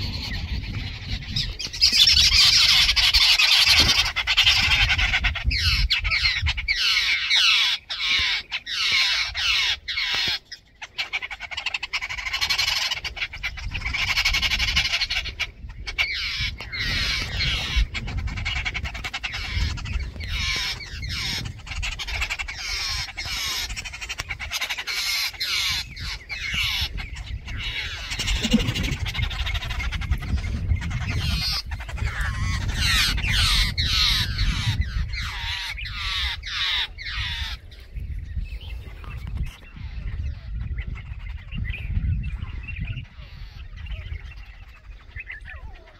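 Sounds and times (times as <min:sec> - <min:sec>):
babblers harsh scolding chatter: 0:00.0 - 0:37.6.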